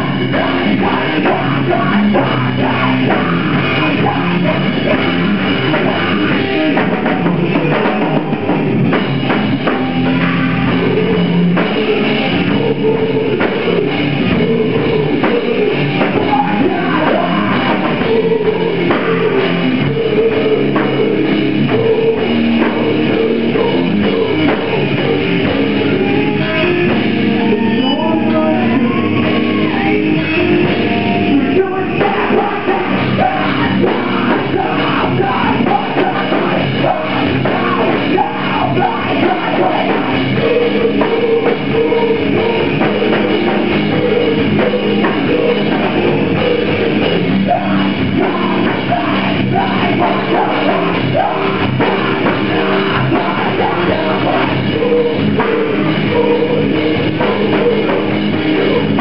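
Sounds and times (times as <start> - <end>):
person singing: 0.0 - 8.6, 9.6 - 59.0
bass guitar: 0.0 - 59.0
drum kit: 0.0 - 59.0
electric guitars: 0.0 - 59.0.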